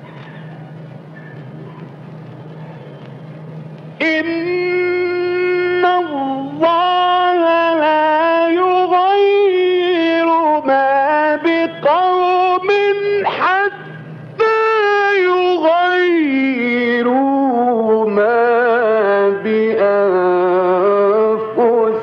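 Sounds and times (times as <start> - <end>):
low hum: 0.0 - 22.0
person reciting melodically: 3.9 - 22.0.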